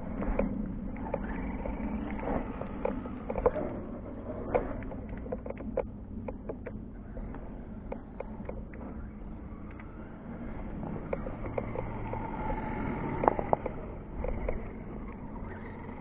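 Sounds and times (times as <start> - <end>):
toy truck motor hum: 0.2 - 5.5, 7.0 - 16.0.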